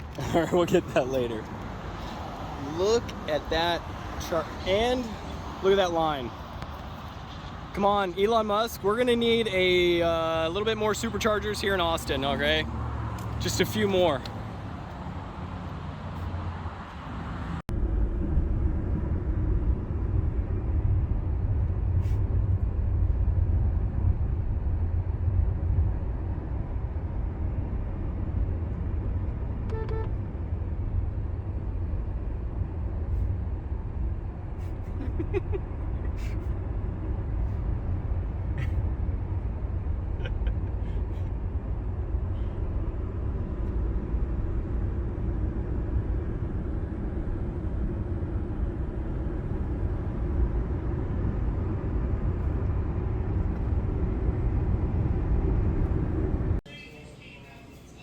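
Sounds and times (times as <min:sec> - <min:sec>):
car rumble in motion: 0:00.0 - 0:56.6.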